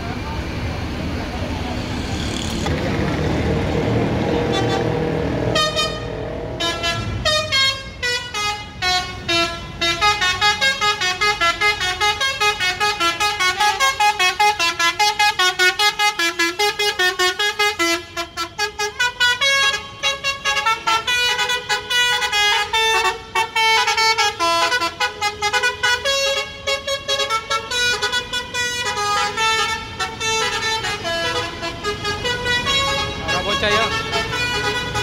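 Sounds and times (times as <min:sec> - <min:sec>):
multi-tone air horn melody: 0:04.2 - 0:35.0.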